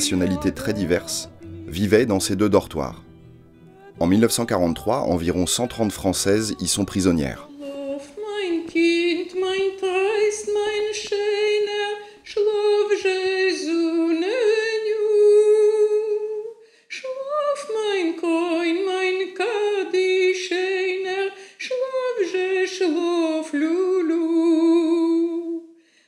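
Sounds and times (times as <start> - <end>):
woman singing a lullaby: 3.7 - 25.7.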